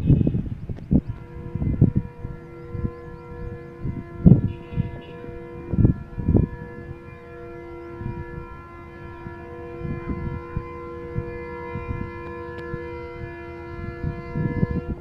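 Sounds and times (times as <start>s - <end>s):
locomotive air horn: 0.0s - 15.0s
wind buffeting microphone: 0.0s - 15.0s.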